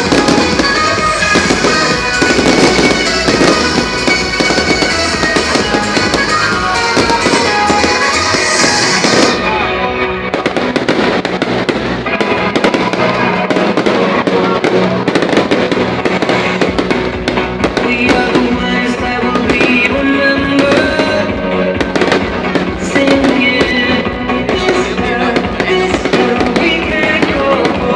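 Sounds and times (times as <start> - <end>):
fireworks popping and crackling: 0.0 - 27.9
loud music from sound system: 0.0 - 27.9.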